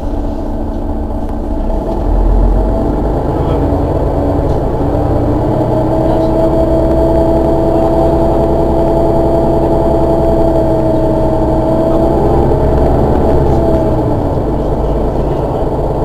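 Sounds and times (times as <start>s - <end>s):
bus diesel engine idling: 0.0s - 16.0s
steady engine whine: 0.0s - 16.0s.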